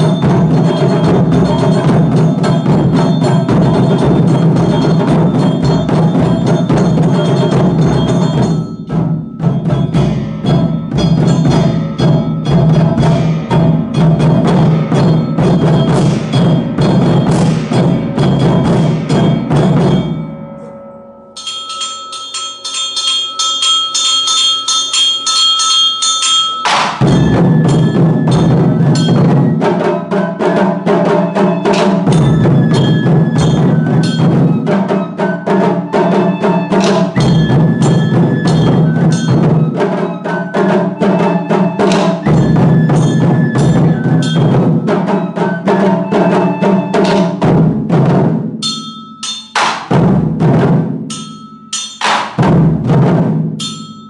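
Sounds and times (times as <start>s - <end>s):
heavy rapid rhythmic drumming: 0.0s - 20.3s, 21.7s - 54.0s
quick ringing drum strikes: 0.0s - 20.7s, 21.4s - 54.0s
taiko drums playing: 0.0s - 54.0s.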